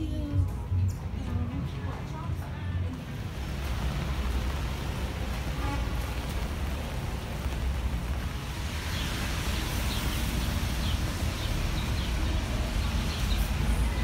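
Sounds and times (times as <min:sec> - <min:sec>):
street noise hiss: 0:01.0 - 0:14.0.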